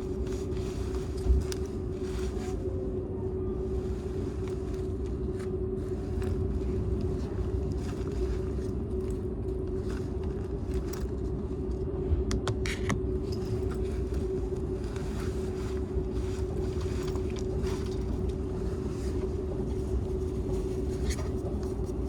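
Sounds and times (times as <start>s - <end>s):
constant hum: 0.0s - 22.0s.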